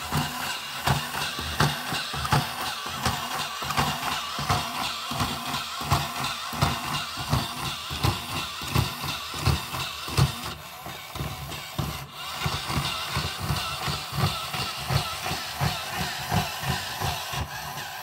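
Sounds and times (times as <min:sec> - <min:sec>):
electric motor and gears whirring: 0:00.0 - 0:18.0
toy robot feet tapping on wood: 0:00.0 - 0:18.0.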